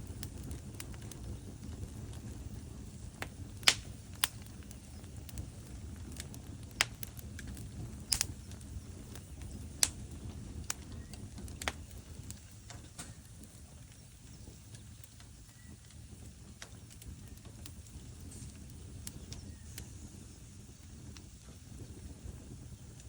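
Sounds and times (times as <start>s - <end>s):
flames rumbling: 0.0s - 23.0s
logs crackling and popping: 0.0s - 23.0s.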